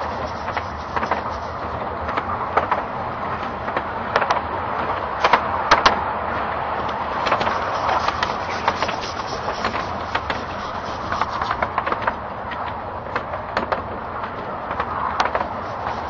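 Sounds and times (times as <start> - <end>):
train carriage rolling rumble: 0.0 - 16.0
wheels clacking over rail joints: 0.0 - 16.0.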